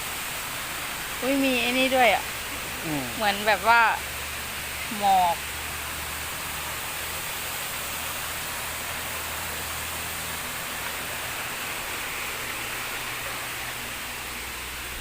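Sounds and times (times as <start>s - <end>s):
water feature rushing: 0.0s - 15.0s.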